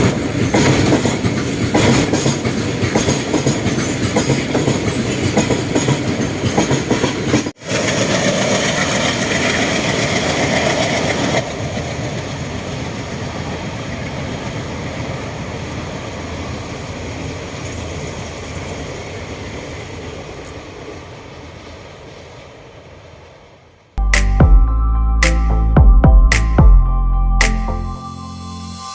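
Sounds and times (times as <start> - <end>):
train rolling noise: 0.0 - 23.9.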